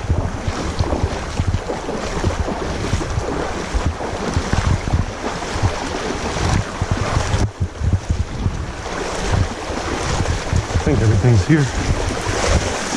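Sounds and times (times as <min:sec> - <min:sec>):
river water rushing: 0:00.0 - 0:12.9
wind buffeting microphone: 0:00.0 - 0:12.9.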